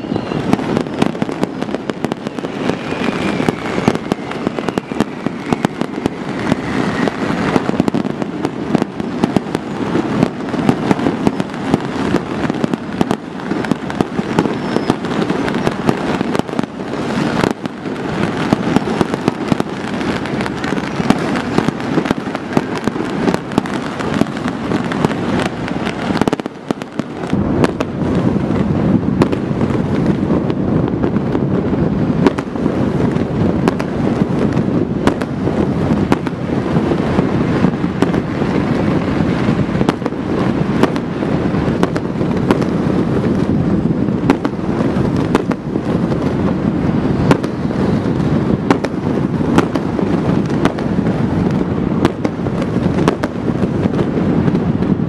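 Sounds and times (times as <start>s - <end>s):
fireworks and firecrackers bursting: 0.0s - 55.0s.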